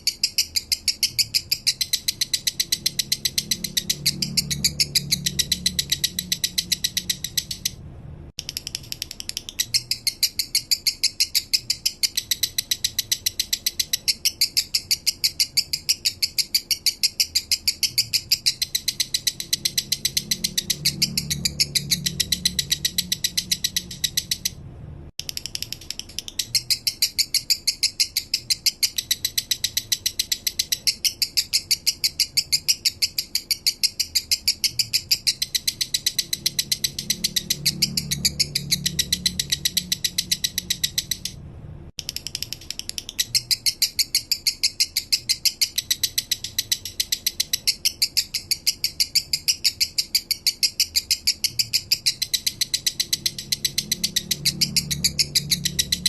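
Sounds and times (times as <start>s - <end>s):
lovebird chirping: 0.0s - 7.8s, 8.4s - 24.6s, 25.2s - 41.4s, 42.0s - 56.0s.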